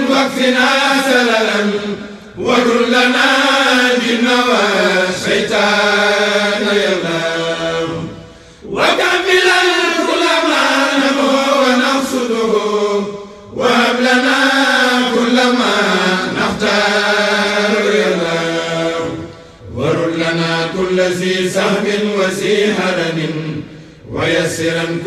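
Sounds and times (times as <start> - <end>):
chorus chanting in unison: 0.0 - 25.0.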